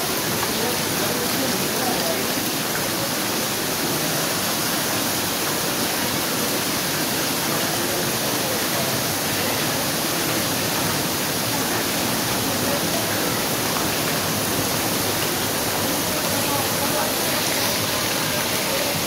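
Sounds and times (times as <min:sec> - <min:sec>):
water pouring in rock tunnel: 0:00.0 - 0:19.0.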